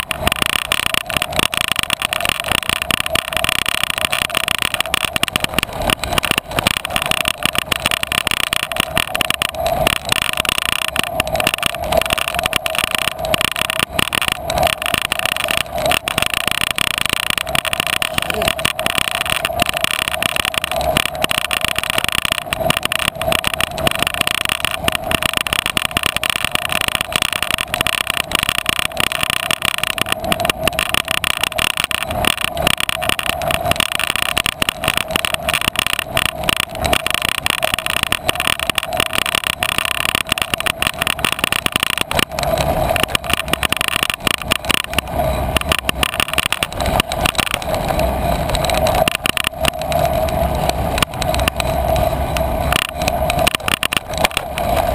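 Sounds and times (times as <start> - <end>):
camera rattling: 0.0 - 54.9
mid-pitched hum: 0.0 - 54.9
tyre and ground noise: 0.0 - 54.9.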